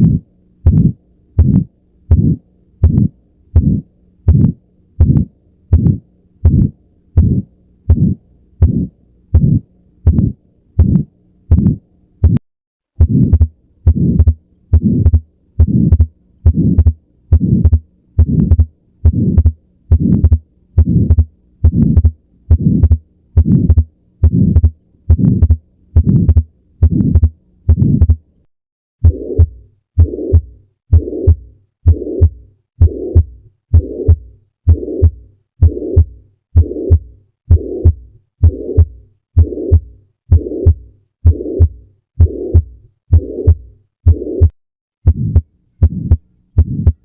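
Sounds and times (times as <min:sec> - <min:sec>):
heartbeat through stethoscope: 0:00.0 - 0:12.4, 0:13.0 - 0:28.3, 0:29.0 - 0:47.0
faint steady hum: 0:00.0 - 0:47.0.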